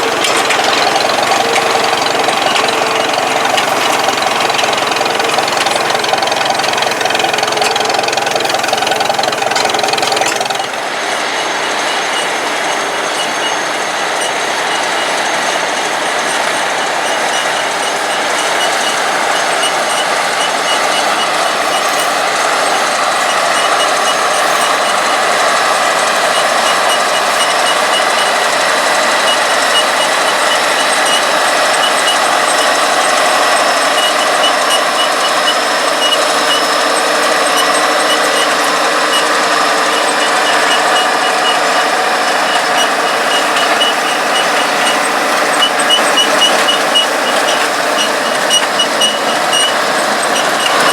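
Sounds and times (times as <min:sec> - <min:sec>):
heavy farm machinery running: 0:00.0 - 0:50.9.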